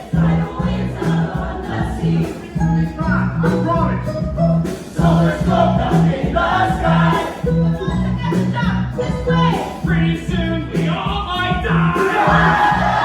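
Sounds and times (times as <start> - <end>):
group of voices singing: 0.0 - 3.4, 5.0 - 13.0
live band music: 0.0 - 13.0
repeated bass figure: 0.0 - 13.0.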